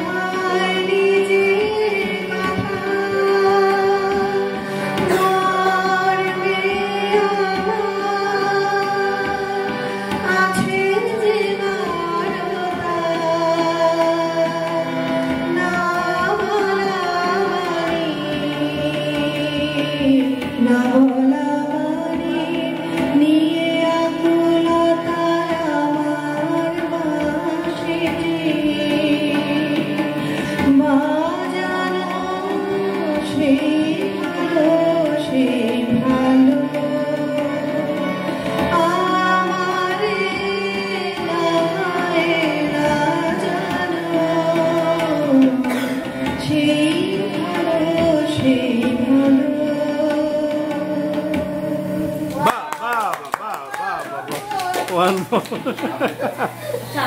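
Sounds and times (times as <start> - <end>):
woman singing: 0.0 - 52.6
harmonium chords: 0.0 - 54.3, 54.9 - 57.0
tabla drums: 0.0 - 57.0.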